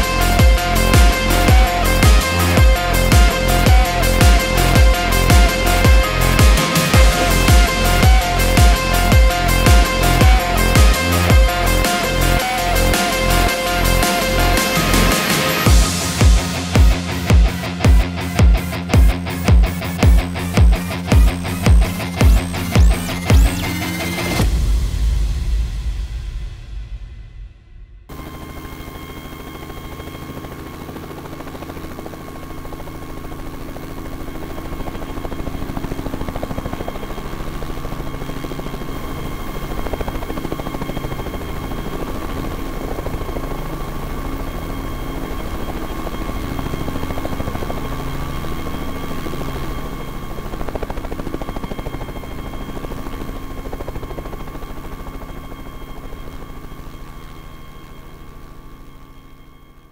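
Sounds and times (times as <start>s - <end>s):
helicopter rotor blades beating: 0.0s - 25.2s, 28.1s - 59.8s
helicopter turbine whine: 0.0s - 26.4s, 28.1s - 59.9s.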